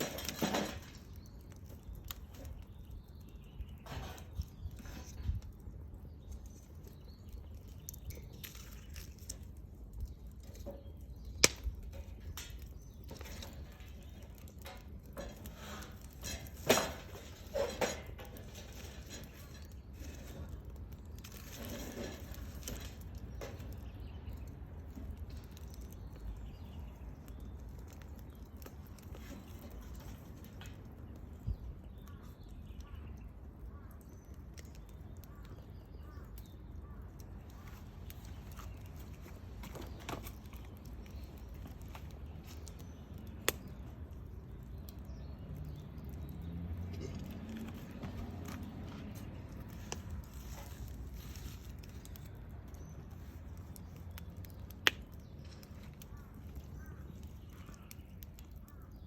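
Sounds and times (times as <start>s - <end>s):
bonfire crackling: 0.0s - 59.0s.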